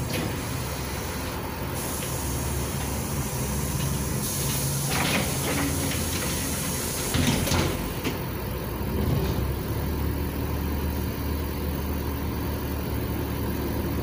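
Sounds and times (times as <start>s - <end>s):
bus engine idling hum: 0.0s - 14.0s.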